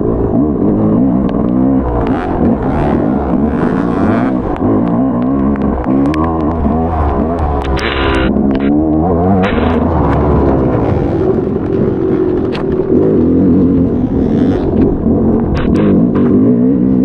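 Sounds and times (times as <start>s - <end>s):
motocross bike engine revving: 0.0s - 17.0s
sharp clicks and knocks: 1.2s - 16.5s.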